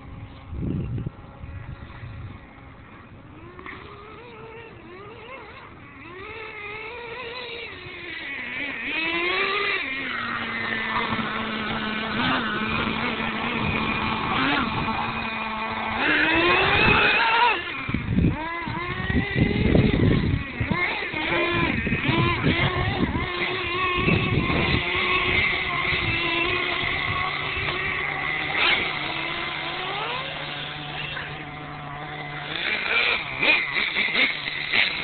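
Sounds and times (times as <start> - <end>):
small nitro engine revving: 0.0 - 35.0.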